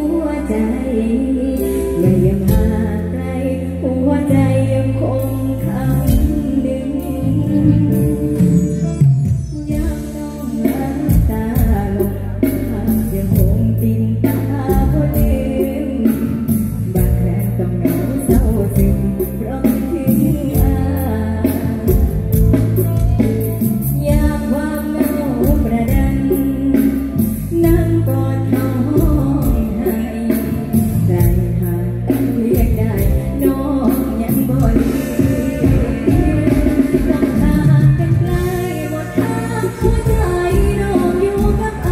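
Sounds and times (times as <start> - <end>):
bass: 0.0 - 41.9
electric guitar: 0.0 - 41.9
woman singing into a microphone: 0.0 - 41.9.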